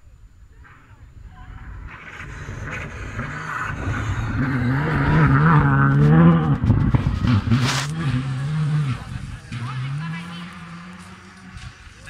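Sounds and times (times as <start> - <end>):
rally car engine at full throttle: 0.5 - 12.0
gravel clattering from tyres: 1.7 - 12.0.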